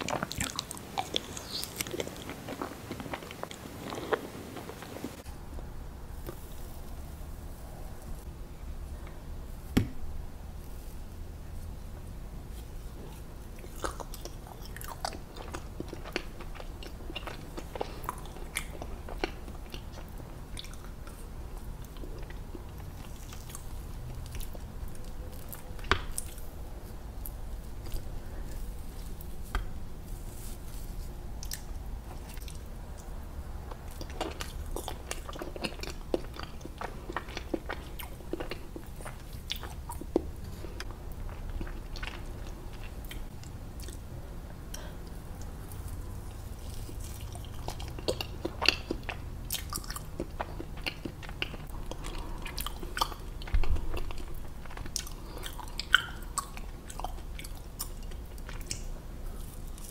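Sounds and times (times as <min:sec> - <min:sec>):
person chewing soft cake: 0:00.0 - 0:05.4, 0:06.2 - 0:07.1, 0:12.5 - 0:59.9.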